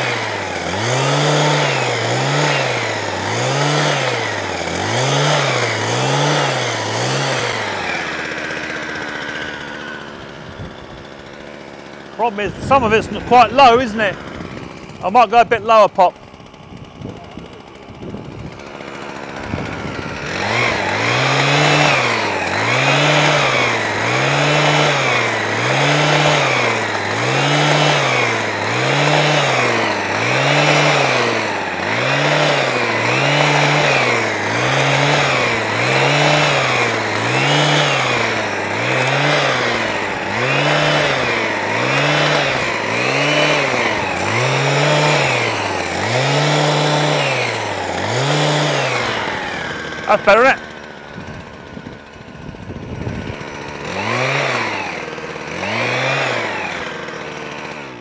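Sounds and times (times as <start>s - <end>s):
hedge trimmer engine hunting: 0.0s - 58.0s.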